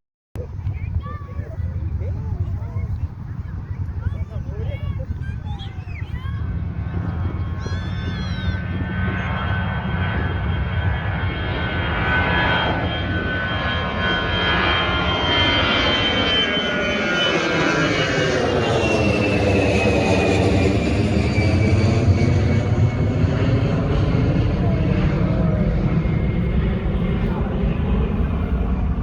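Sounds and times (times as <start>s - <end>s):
jet airliner engine whine: 0.4s - 29.0s.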